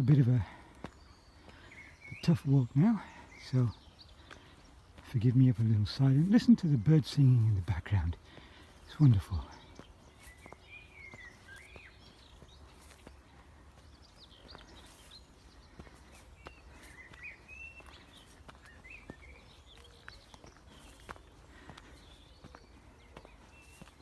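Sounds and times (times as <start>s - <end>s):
birds chirping and whistling: 0.0s - 24.0s
footsteps on a path: 0.0s - 24.0s.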